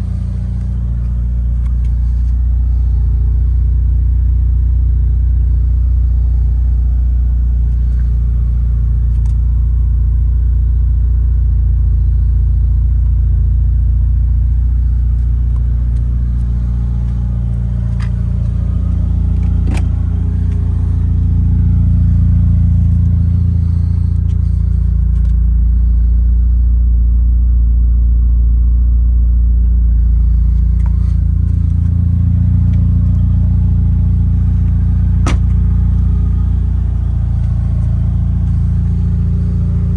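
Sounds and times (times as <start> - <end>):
car engine idling: 0.0 - 25.9, 29.8 - 39.9.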